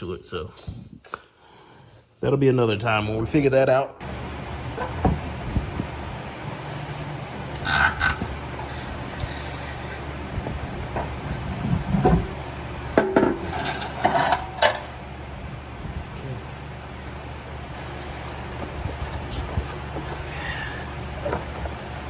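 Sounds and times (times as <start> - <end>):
steady low hum: 4.0 - 22.0.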